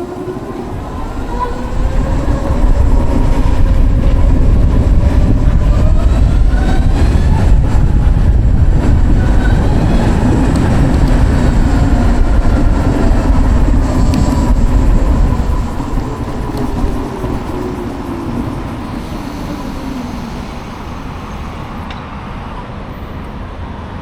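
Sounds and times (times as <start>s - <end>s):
wind and road rumble: 0.0s - 24.0s.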